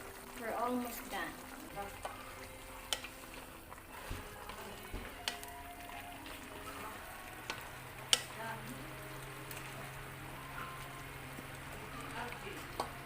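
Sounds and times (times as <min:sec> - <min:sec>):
pot simmering: 0:00.0 - 0:13.0.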